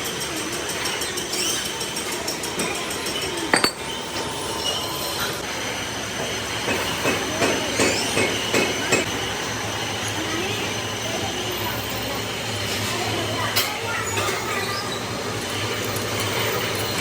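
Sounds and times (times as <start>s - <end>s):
steady workshop hum: 0.0s - 17.0s.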